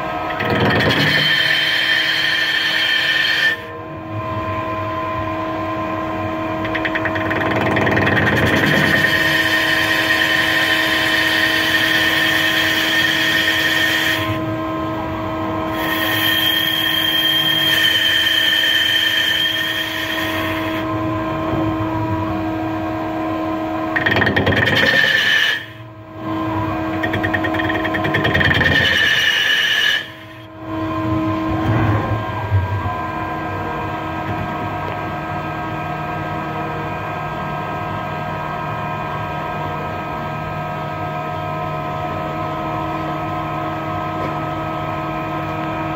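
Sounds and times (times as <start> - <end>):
high-pitched cutting whine: 0.0 - 37.0
lathe machine hum: 0.0 - 37.7.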